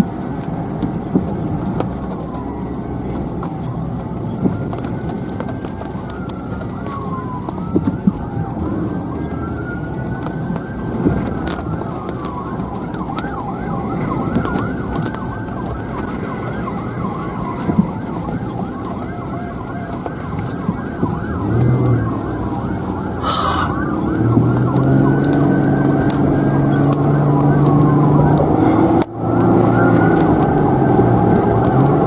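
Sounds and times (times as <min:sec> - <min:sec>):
car road noise: 0:00.0 - 0:32.0
sirens yelping: 0:00.0 - 0:32.0
siren wailing: 0:01.7 - 0:32.0.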